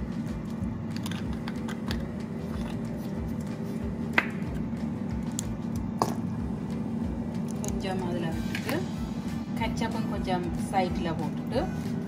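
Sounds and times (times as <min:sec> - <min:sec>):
air fryer fan hum: 0:00.0 - 0:12.0.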